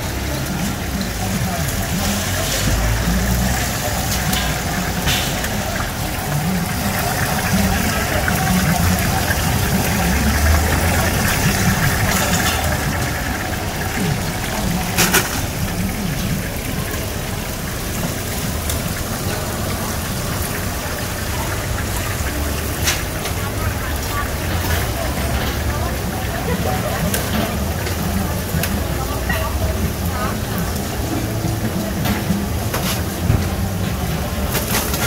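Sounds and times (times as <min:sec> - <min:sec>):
oil sizzling and bubbling: 0:00.0 - 0:35.0.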